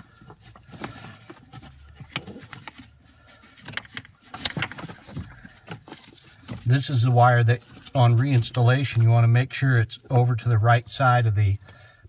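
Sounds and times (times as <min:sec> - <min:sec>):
plastic and wiring clicking and rustling: 0:00.0 - 0:10.4.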